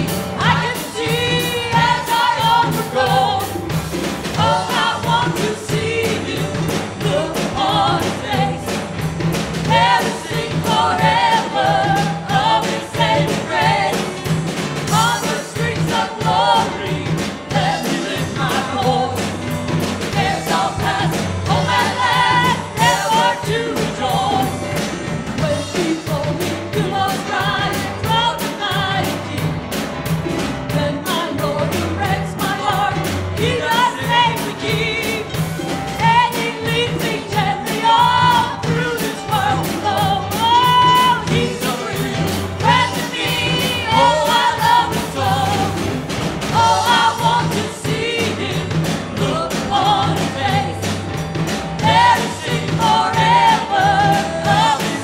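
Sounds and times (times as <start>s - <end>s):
women singing: 0.0s - 8.8s, 9.6s - 19.5s, 20.1s - 24.8s, 25.4s - 29.7s, 30.7s - 51.1s, 51.8s - 55.0s
drum kit with cymbals: 0.0s - 55.0s.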